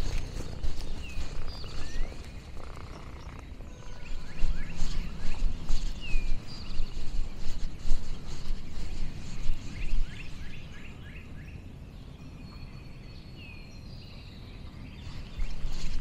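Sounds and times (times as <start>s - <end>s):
songbirds chirping and whistling: 0.0s - 16.0s.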